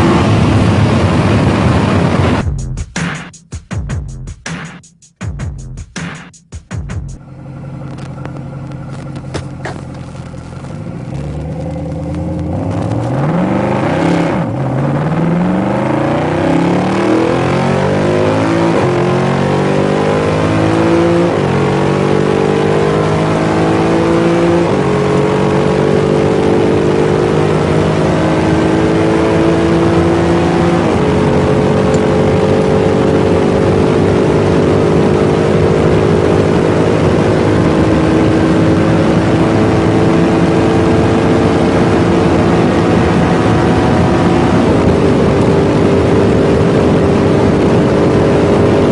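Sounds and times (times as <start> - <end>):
road and wind noise: 0.0 - 2.8, 6.9 - 48.9
sports car engine accelerating: 0.0 - 2.8, 6.8 - 48.9.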